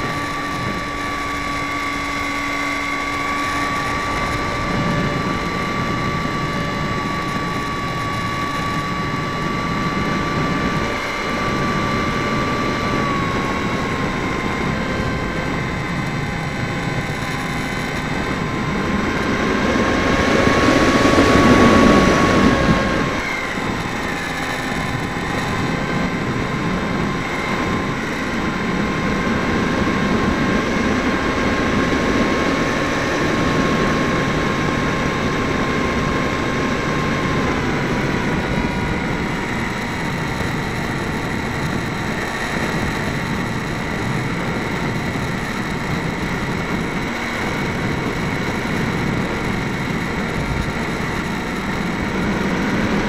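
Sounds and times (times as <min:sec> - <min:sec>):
electric motor and propeller whining: 0:00.0 - 0:53.0
wind rushing over microphone: 0:00.0 - 0:53.0.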